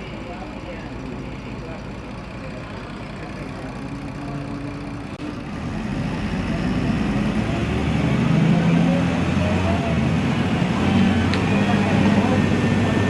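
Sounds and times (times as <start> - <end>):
bus diesel engine revving: 0.1 - 13.0.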